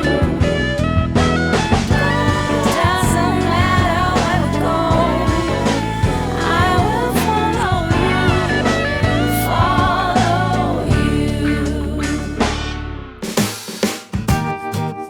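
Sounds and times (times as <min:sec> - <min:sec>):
pop song with singing and band: 0:00.0 - 0:13.0.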